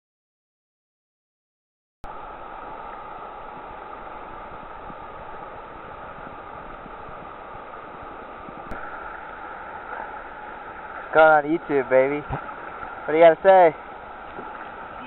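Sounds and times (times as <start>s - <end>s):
river water rushing: 2.1s - 15.0s.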